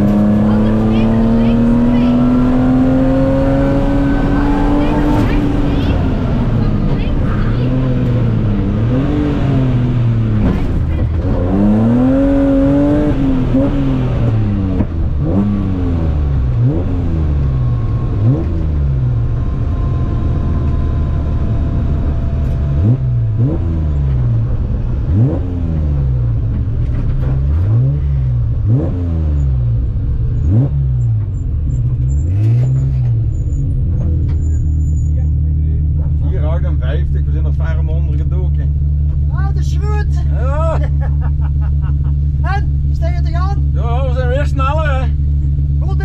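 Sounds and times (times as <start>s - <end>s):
car engine revving through gears: 0.0s - 39.4s.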